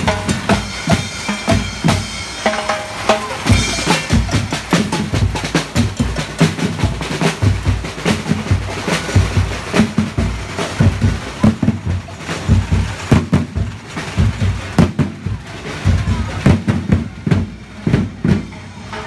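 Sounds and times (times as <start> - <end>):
marching drums beaten with mallets: 0.0 - 19.0.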